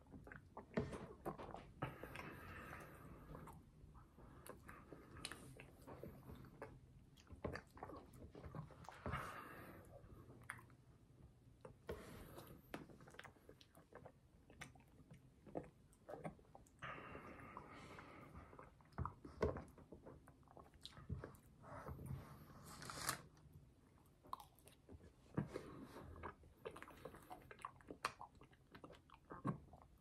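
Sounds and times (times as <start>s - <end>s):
soft chewing: 0.0s - 30.0s.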